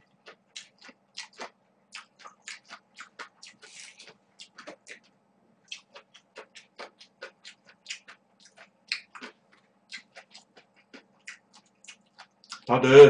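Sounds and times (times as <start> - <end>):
wet chewing mouth clicks and smacks: 0.0 - 12.7.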